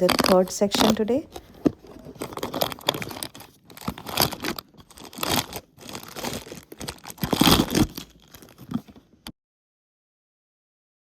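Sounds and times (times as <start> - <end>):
packaging torn and crinkled: 0.0 - 9.2.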